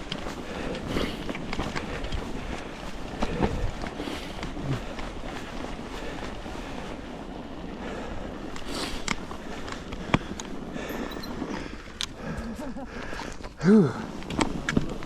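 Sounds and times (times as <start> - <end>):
bike tyres rushing on snow: 0.0 - 10.9, 11.7 - 15.0.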